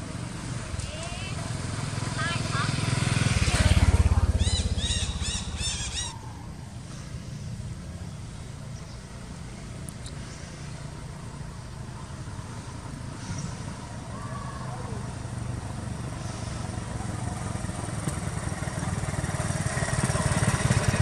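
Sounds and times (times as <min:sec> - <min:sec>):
low outdoor background: 0:00.0 - 0:21.0
motorbike passing: 0:00.0 - 0:21.0.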